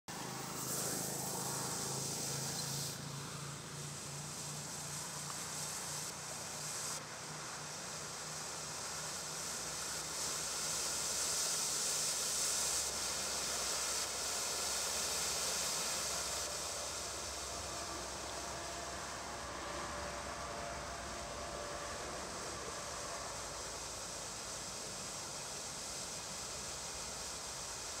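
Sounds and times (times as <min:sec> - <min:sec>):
smoke firework hissing: 0:00.1 - 0:28.0.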